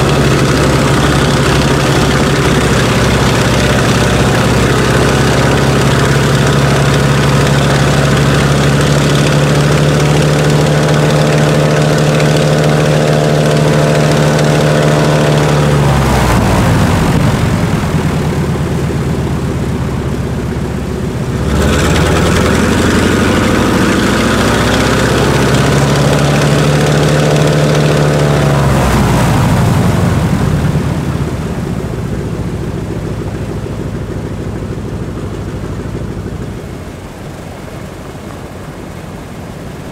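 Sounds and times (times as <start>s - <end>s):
radial aircraft engines running: 0.0s - 39.9s.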